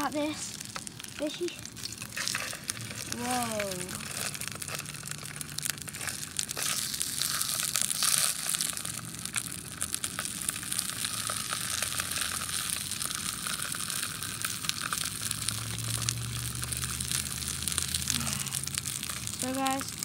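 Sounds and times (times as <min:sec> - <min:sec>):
fish frying in hot oil: 0:00.0 - 0:20.0
low steady hum: 0:00.0 - 0:20.0.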